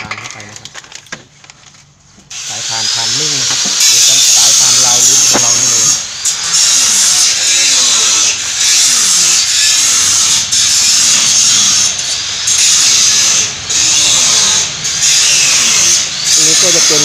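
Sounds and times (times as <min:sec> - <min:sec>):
power tool whirring: 0:02.3 - 0:17.0.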